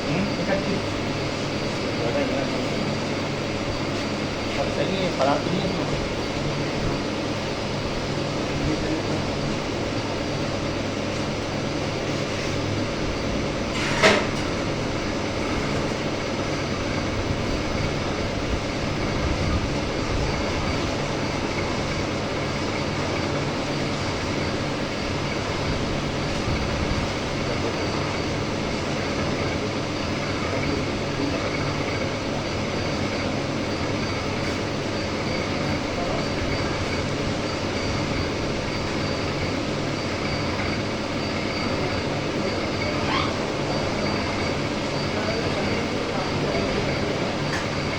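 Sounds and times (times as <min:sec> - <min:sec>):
milling machine running: 0:00.0 - 0:47.9.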